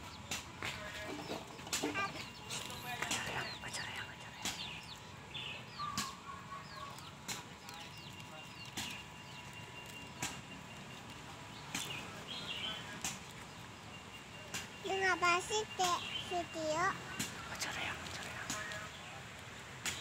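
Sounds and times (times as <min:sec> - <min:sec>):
chicks peeping: 0:00.0 - 0:19.1.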